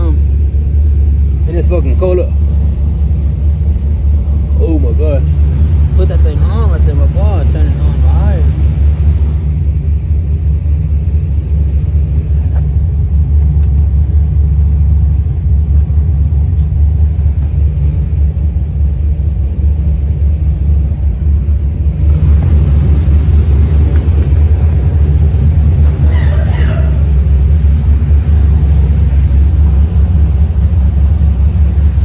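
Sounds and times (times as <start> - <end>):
engine idling with deep rumble: 0.0 - 32.0.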